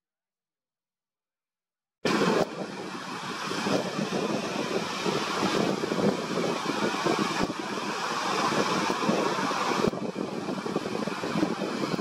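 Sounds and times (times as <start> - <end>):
wind: 2.0 - 12.0
surf: 2.1 - 12.0.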